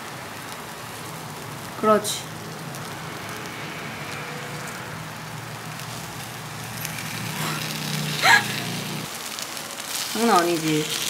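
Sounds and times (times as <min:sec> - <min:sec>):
batter sizzling and crackling: 0:00.0 - 0:11.0.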